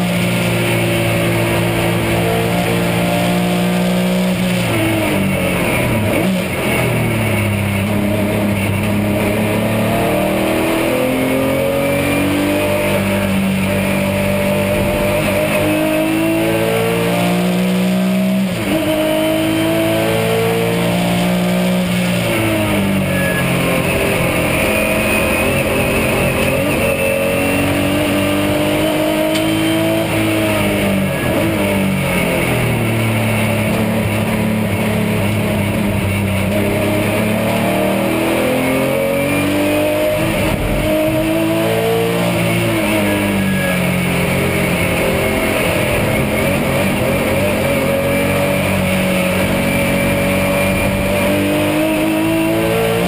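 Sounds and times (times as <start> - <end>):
race car engine from inside: 0.0 - 53.0.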